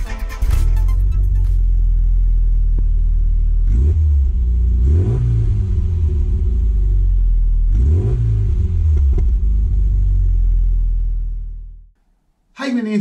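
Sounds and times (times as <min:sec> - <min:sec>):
car engine idling and revving: 0:00.5 - 0:12.0.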